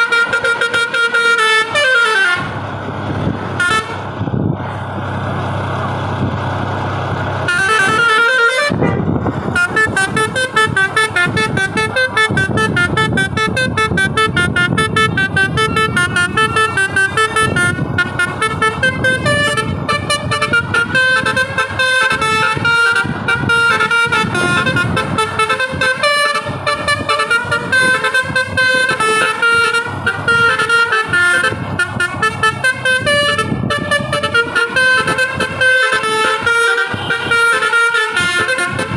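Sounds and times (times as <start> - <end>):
bus horn playing melody: 0.0 - 4.4, 7.4 - 38.9.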